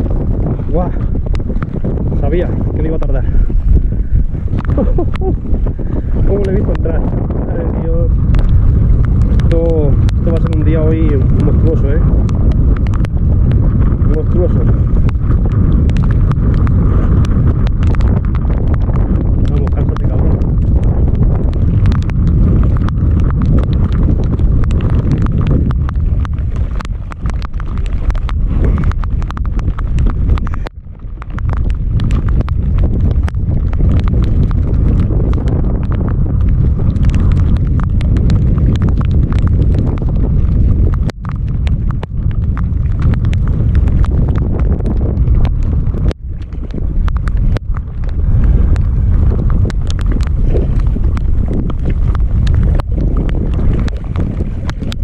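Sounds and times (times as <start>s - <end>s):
rain tapping on camera: 0.0s - 55.0s
wind buffeting microphone: 0.0s - 55.0s.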